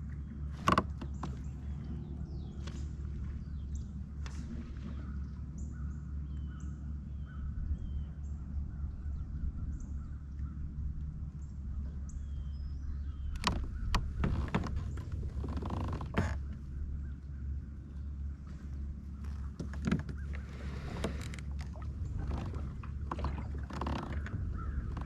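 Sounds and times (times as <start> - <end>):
low rumble: 0.0 - 25.0
birds calling: 0.1 - 25.0.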